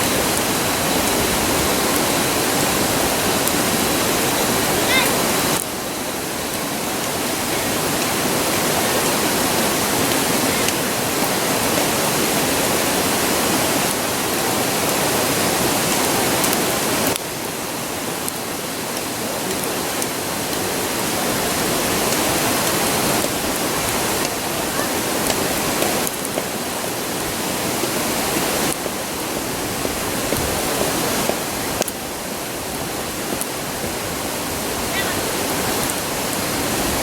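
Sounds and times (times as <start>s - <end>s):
campfire crackles: 0.0s - 37.0s
river rushing: 0.0s - 37.0s.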